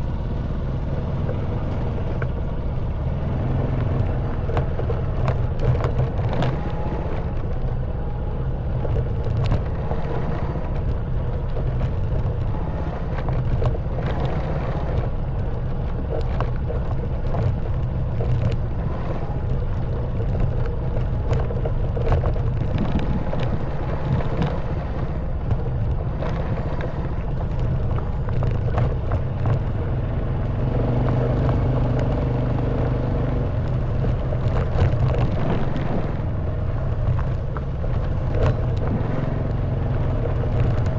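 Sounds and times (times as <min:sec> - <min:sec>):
motorbike engine running: 0:00.0 - 0:40.9
knocks and rattles over stones: 0:03.8 - 0:07.7, 0:08.7 - 0:29.9, 0:30.8 - 0:40.9.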